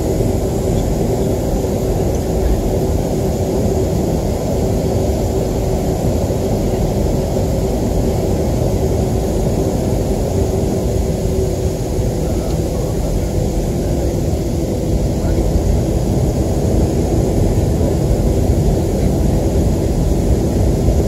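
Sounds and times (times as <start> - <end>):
jet engines at low power: 0.0 - 21.0.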